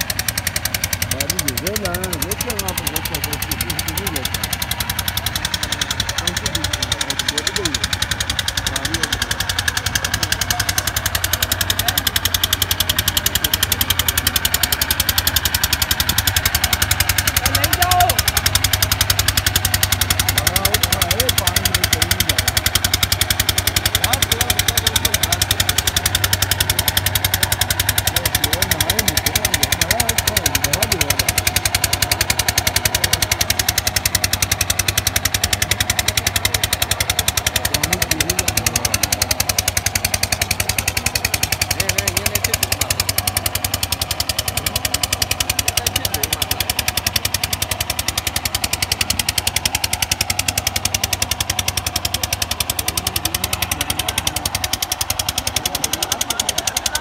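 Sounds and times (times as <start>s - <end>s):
engine chugging: 0.0s - 57.0s.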